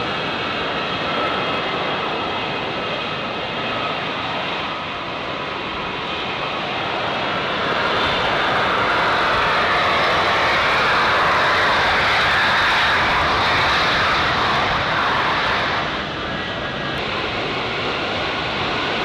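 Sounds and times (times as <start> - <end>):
jet engines roaring with whine: 0.0 - 19.0.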